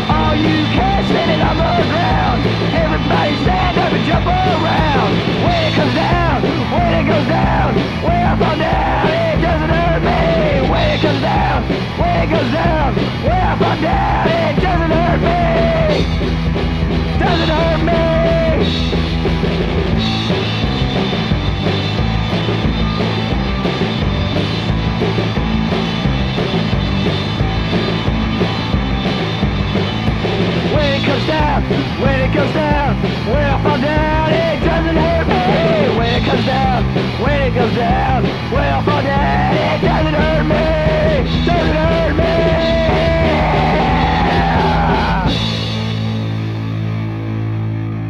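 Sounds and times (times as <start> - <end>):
instrumental rock band: 0.0 - 48.0.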